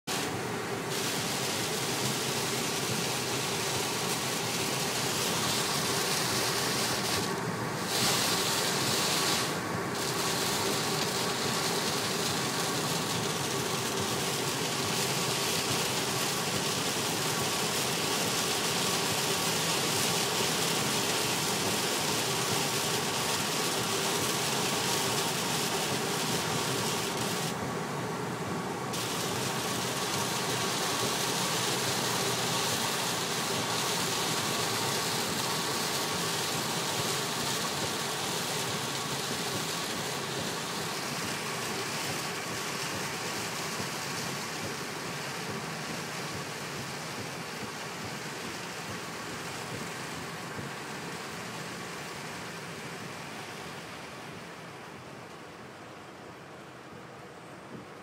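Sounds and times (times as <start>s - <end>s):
tyres hissing on wet road: 0.0s - 57.9s
rain on car: 0.1s - 53.3s.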